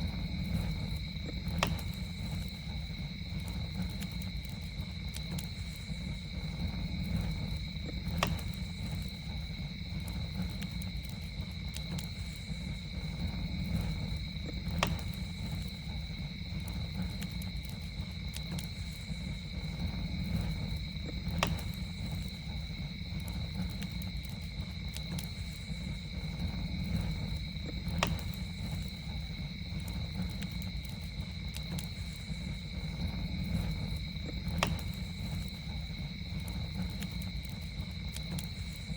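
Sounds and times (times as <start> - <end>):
campfire crackling and popping: 0.0 - 38.9
insect trill: 0.0 - 38.9
low fire rumble: 0.0 - 38.9.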